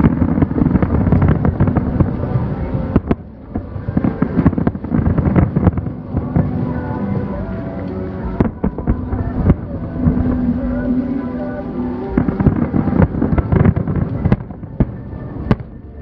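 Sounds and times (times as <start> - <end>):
continuous low rumble: 0.0 - 16.0
fireworks bangs: 0.0 - 16.0.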